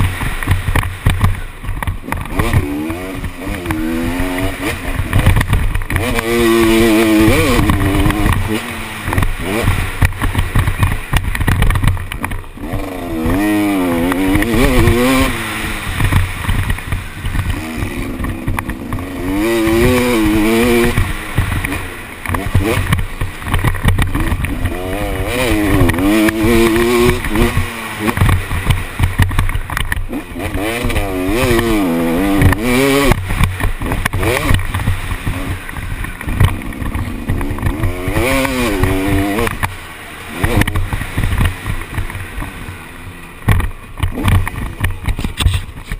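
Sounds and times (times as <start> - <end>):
wind noise on microphone: 0.0 - 42.8, 43.4 - 45.9
motocross bike engine revving: 0.0 - 45.9.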